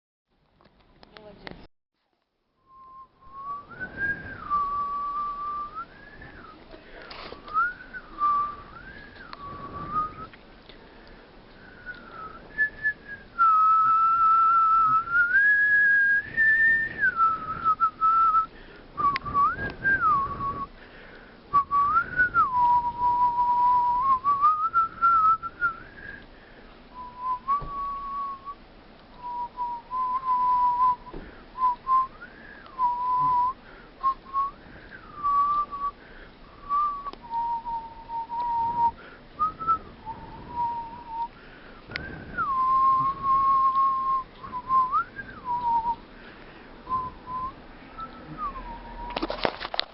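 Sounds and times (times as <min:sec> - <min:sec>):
person whistling: 0:02.7 - 0:06.6, 0:07.4 - 0:10.4, 0:11.6 - 0:20.7, 0:21.5 - 0:26.2, 0:26.9 - 0:28.6, 0:29.2 - 0:36.0, 0:36.6 - 0:46.0, 0:46.9 - 0:49.6.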